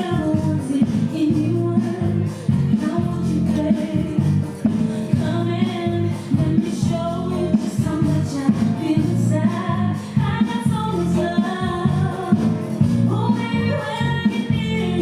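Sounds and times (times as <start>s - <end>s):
steady bass line: 0.0s - 15.0s.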